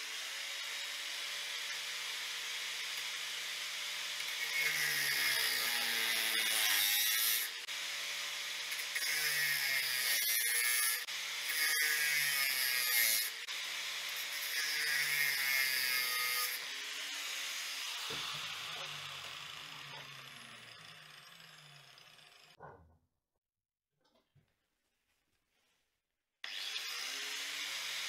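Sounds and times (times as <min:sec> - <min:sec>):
angle grinder cutting metal: 0:00.0 - 0:22.6, 0:26.4 - 0:28.0.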